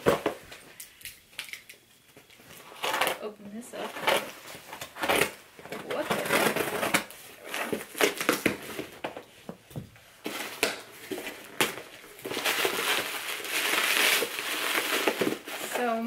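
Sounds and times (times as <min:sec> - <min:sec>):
plastic packing material crinkling: 0:02.3 - 0:09.4, 0:10.2 - 0:16.0.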